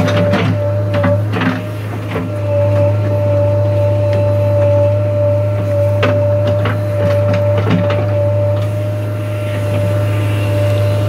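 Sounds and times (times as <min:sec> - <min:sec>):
diesel engine running: 0:00.0 - 0:11.0
high whine: 0:00.1 - 0:11.0.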